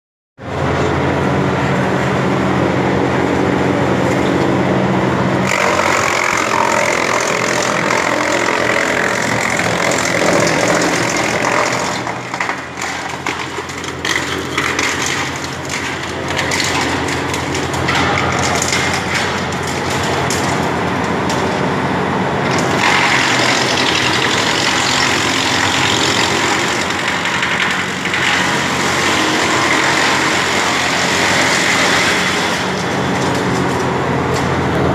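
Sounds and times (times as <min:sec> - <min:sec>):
wood chipper droning: 0:00.4 - 0:34.9
wood chipper grinding branches: 0:00.4 - 0:34.9
wood cracking: 0:05.4 - 0:21.6, 0:22.4 - 0:34.5.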